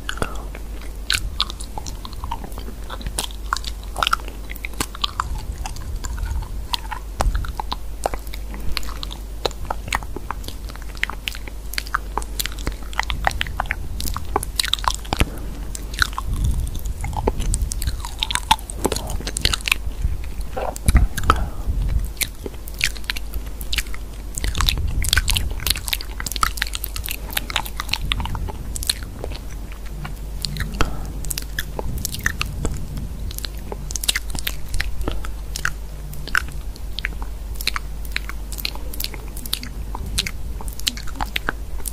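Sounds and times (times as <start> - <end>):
crisp clicks and crunching: 0.0 - 41.9
steady low hum: 0.0 - 41.9.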